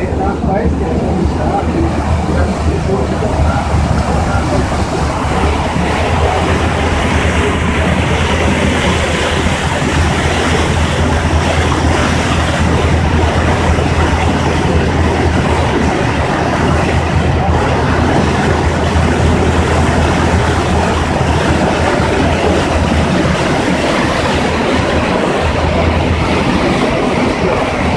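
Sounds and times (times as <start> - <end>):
ferry engine drone: 0.0 - 27.9
water rushing: 0.0 - 27.9
wind: 0.0 - 27.9.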